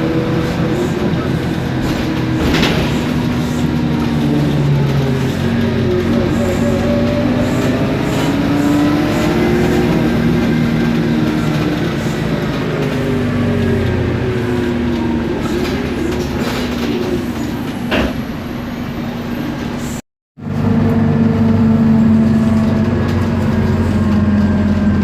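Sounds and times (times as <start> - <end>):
bus drivetrain whine and rumble: 0.0 - 25.0.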